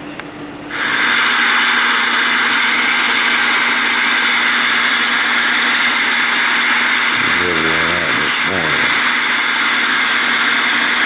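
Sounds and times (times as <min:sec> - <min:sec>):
radio static hiss: 0:00.7 - 0:11.0.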